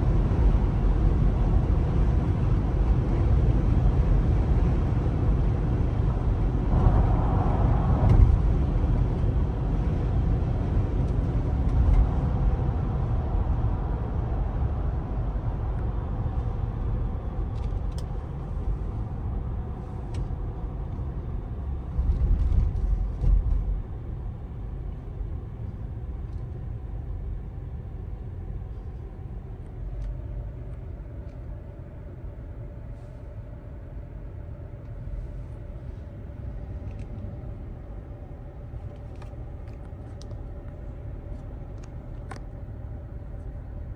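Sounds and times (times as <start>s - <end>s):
car engine rumbling: 0.0s - 43.9s.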